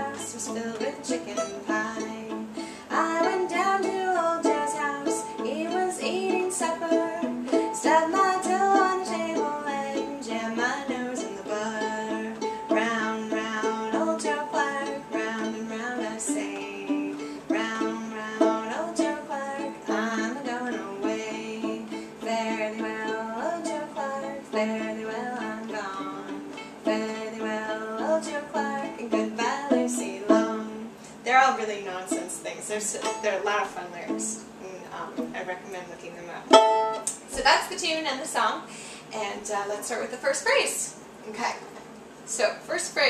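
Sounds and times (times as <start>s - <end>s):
plucked violin chords: 0.0s - 30.9s, 31.9s - 35.4s, 36.5s - 37.2s
woman singing folk song: 0.0s - 41.5s.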